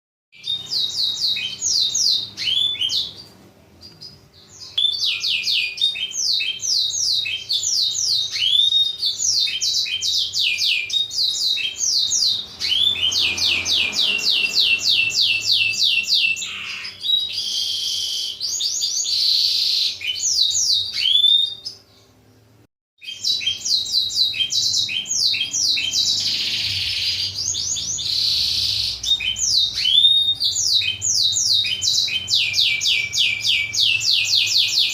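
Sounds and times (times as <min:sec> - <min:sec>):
canary song with whistles and buzzes: 0:00.3 - 0:34.9.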